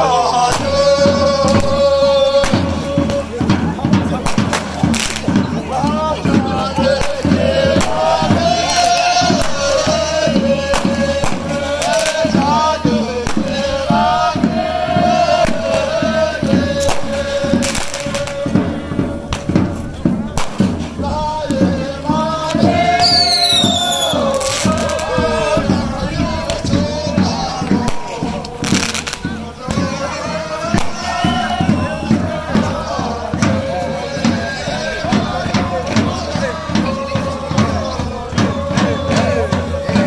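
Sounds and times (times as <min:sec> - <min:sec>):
group of voices singing: 0:00.0 - 0:40.0
sharp rhythmic beats: 0:00.0 - 0:40.0.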